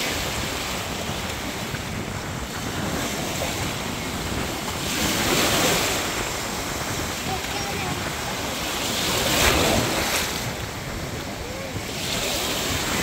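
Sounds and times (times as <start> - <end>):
small waves breaking on sand: 0.0 - 13.0
wind buffeting microphone: 0.0 - 13.0.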